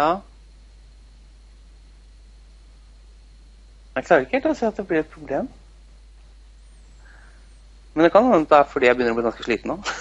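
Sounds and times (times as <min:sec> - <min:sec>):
background hiss: 0:00.0 - 0:10.0
low hum: 0:00.0 - 0:10.0.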